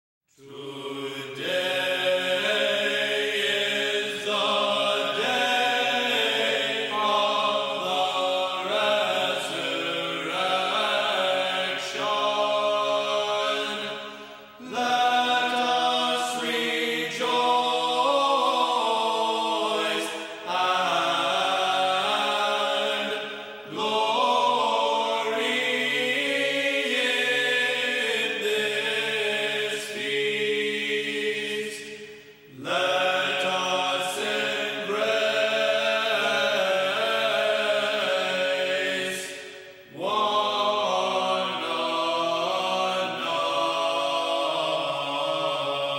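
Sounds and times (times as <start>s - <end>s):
voices singing liturgical chant: 0.3s - 45.9s.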